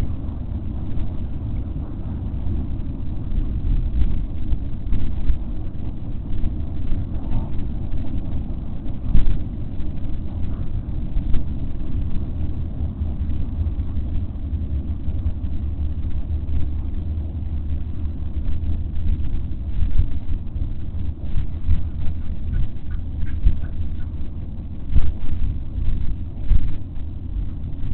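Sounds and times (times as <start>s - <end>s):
low outdoor rumble: 0.0s - 27.9s.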